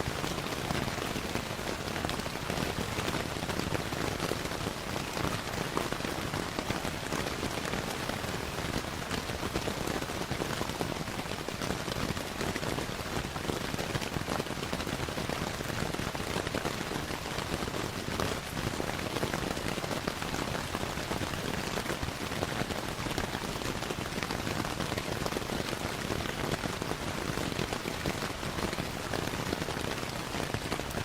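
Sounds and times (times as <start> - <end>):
steady rainfall: 0.0 - 31.0.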